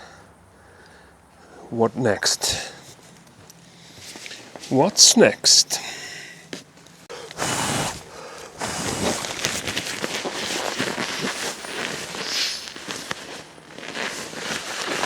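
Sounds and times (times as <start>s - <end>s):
camping gear crinkling: 0.0s - 15.0s.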